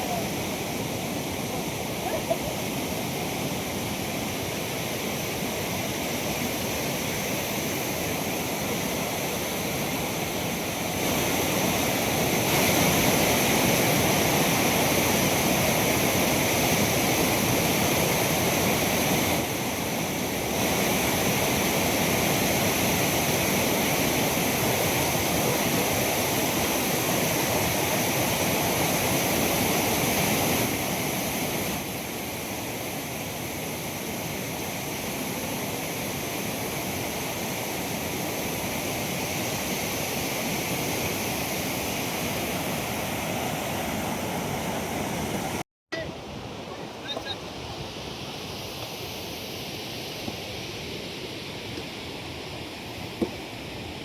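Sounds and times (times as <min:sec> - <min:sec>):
rushing floodwater: 0:00.0 - 0:54.0.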